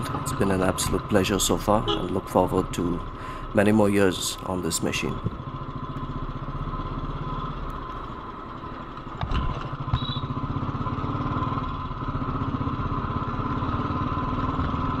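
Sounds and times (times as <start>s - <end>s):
motorcycle engine pulsing: 0.0s - 15.0s.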